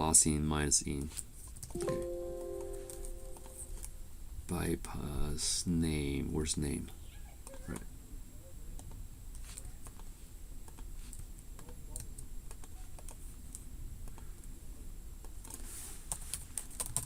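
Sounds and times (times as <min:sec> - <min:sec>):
low steady hum: 0:00.0 - 0:15.5.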